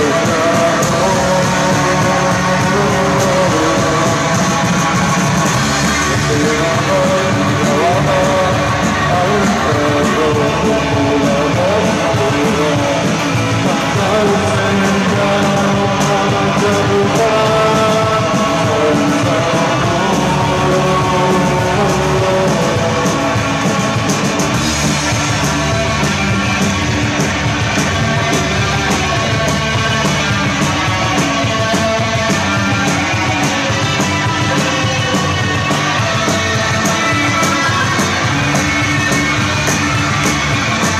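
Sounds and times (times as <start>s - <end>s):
loud electric guitars: 0.0s - 40.9s
person singing: 0.0s - 40.9s
steady drum beat: 0.0s - 40.9s.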